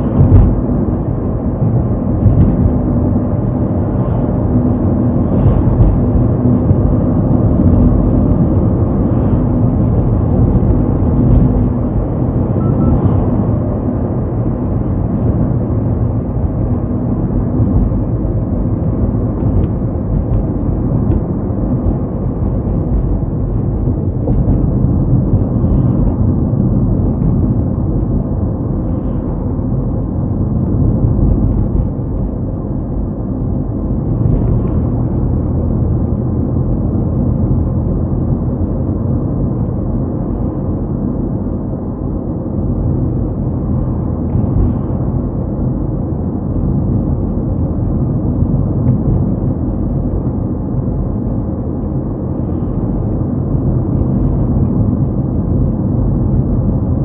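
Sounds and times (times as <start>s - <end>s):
car engine and tyre road noise: 0.0s - 57.0s.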